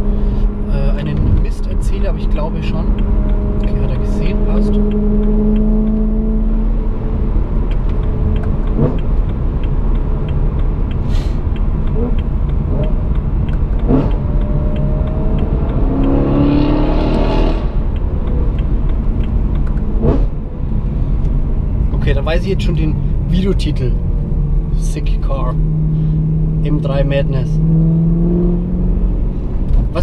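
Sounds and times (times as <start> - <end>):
car engine drone: 0.0 - 30.0
road and tyre noise: 0.0 - 30.0.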